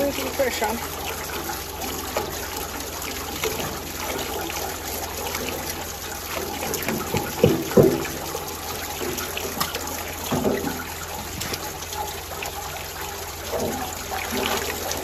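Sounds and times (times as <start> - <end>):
water running and trickling: 0.0 - 15.0.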